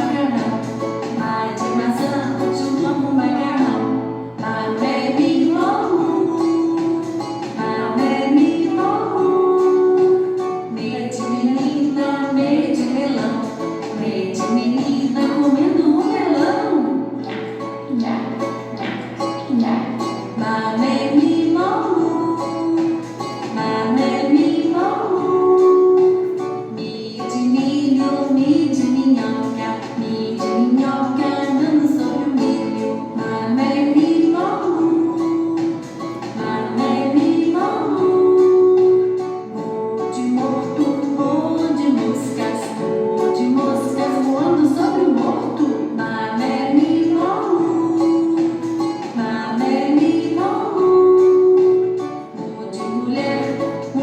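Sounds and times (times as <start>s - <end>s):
instrumental accompaniment: 0.0s - 54.0s
plucked guitar: 0.0s - 54.0s
woman singing: 0.0s - 54.0s.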